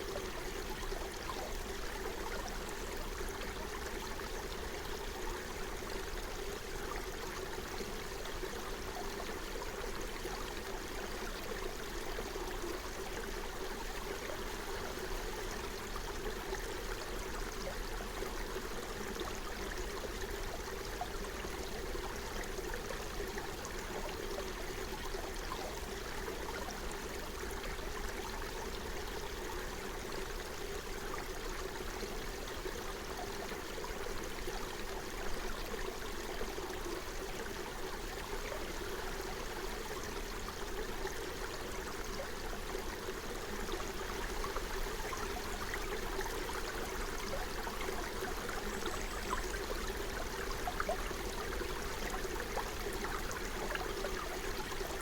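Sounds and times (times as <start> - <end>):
brook flowing: 0.0 - 55.0.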